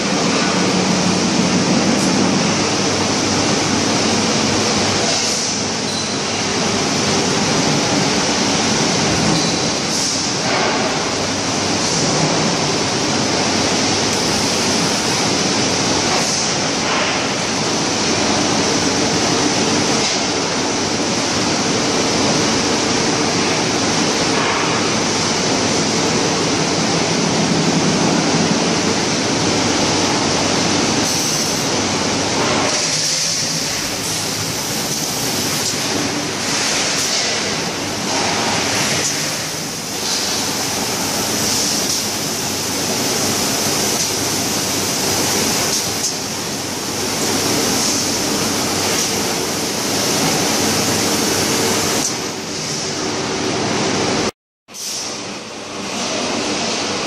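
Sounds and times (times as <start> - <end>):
faint machinery hum: 0.0 - 57.0.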